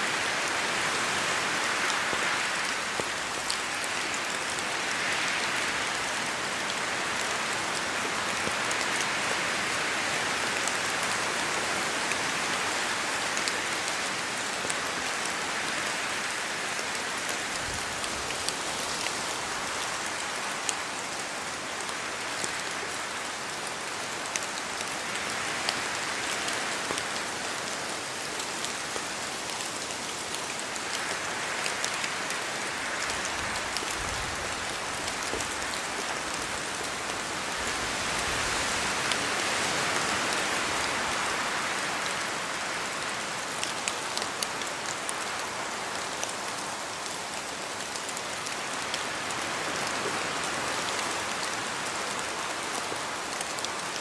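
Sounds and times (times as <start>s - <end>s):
rain falling through trees: 0.0s - 54.0s.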